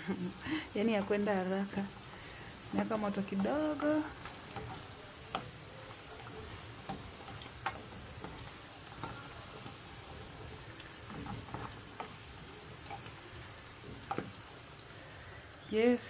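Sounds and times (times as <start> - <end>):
mushrooms sizzling in a pan: 0.0 - 16.0
crackles and pops: 0.1 - 15.0.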